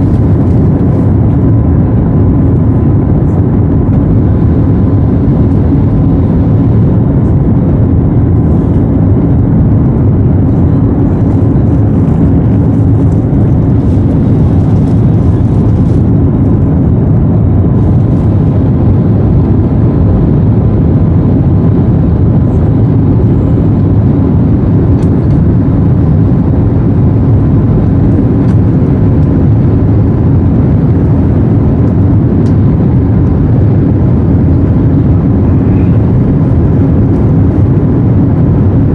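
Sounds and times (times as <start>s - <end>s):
faint high hum: 0.0s - 38.9s
jet engine cabin drone: 0.0s - 38.9s.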